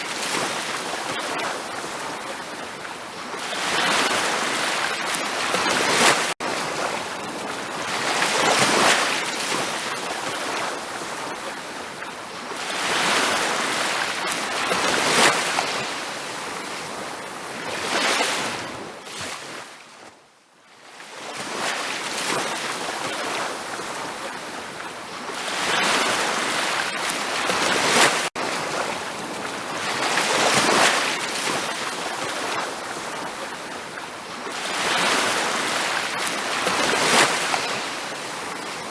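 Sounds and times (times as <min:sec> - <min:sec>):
ocean surf washing onto beach: 0:00.0 - 0:19.6, 0:21.2 - 0:38.9.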